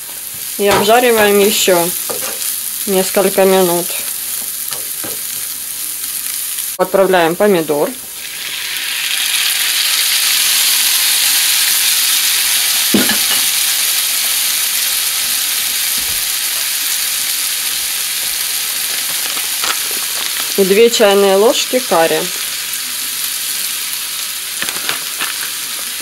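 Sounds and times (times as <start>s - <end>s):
tomatoes sizzling in oil: 0.0s - 26.0s.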